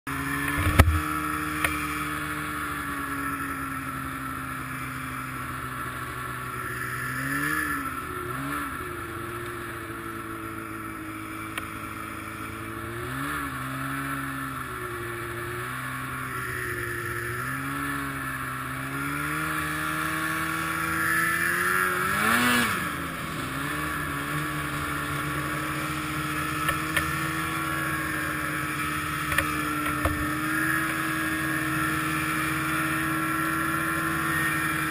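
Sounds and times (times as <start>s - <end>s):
snowmobile engine idling and revving: 0.1s - 34.9s.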